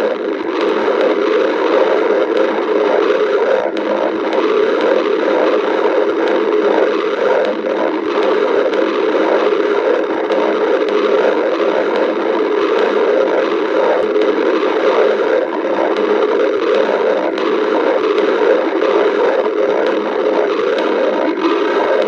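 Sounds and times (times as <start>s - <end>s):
cartoon stomach growl: 0.0s - 22.0s.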